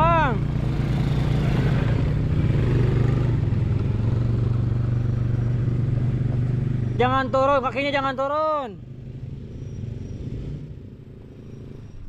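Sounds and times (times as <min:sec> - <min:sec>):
atv engine running steadily: 0:00.0 - 0:12.0.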